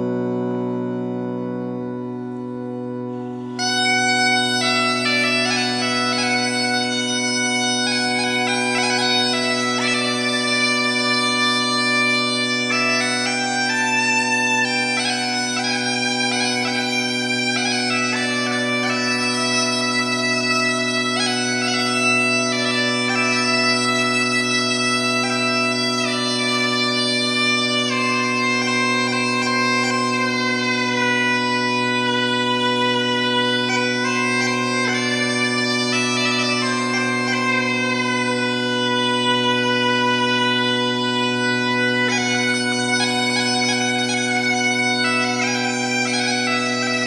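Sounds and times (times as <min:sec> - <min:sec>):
bagpipes playing slow melody: 0:00.0 - 0:47.0.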